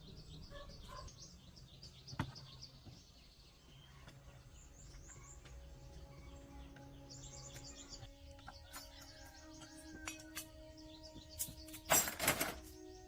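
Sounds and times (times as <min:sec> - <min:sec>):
faint bird chirps: 0:00.0 - 0:12.1.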